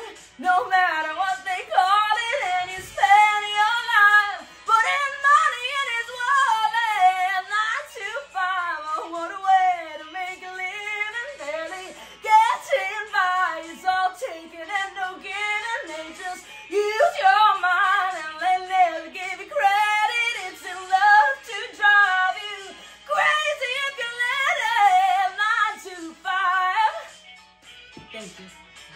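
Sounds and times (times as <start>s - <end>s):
woman singing with vibrato: 0.0s - 27.1s.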